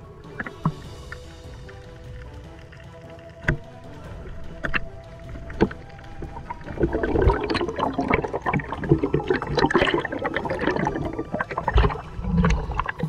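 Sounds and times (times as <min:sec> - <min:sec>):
water sloshing and gurgling: 0:00.0 - 0:13.0
small splashes and clicks: 0:00.2 - 0:13.0.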